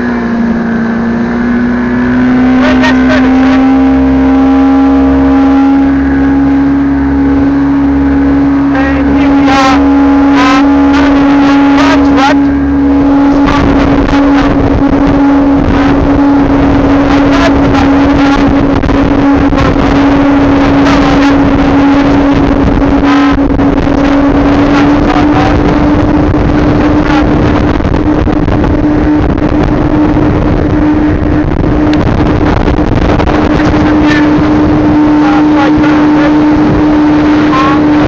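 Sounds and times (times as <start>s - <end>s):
outboard motor running: 0.0s - 38.0s
wind and water rushing: 0.0s - 38.0s.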